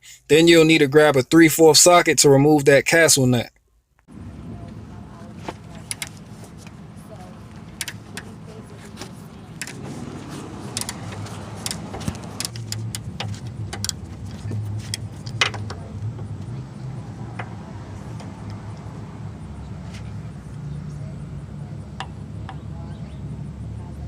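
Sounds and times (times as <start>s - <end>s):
steady low hum: 4.1s - 24.0s.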